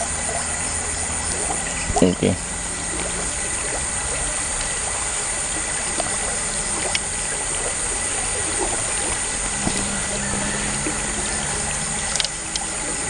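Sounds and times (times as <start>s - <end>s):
water trickling through culvert: 0.0s - 13.0s.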